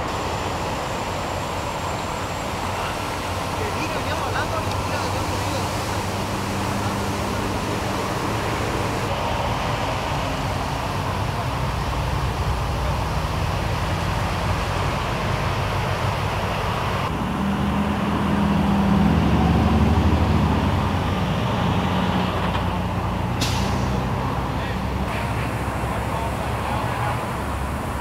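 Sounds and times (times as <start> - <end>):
deeper engine sound: 0.0 - 28.0
vehicle engine and road noise: 0.0 - 28.0.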